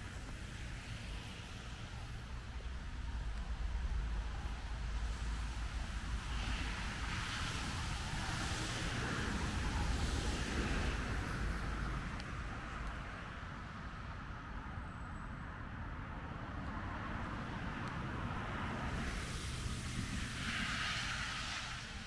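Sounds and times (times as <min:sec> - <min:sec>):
distant road traffic rumble: 0:00.0 - 0:14.7, 0:16.6 - 0:22.0.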